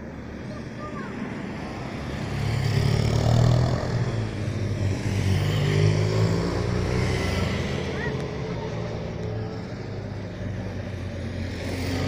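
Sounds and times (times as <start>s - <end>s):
car passing: 0.4s - 12.0s.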